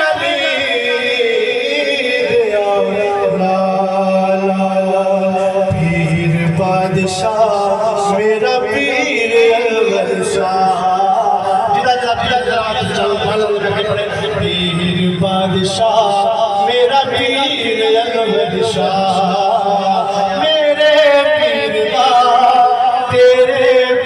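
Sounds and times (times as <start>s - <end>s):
men singing a devotional chant: 0.0s - 24.0s.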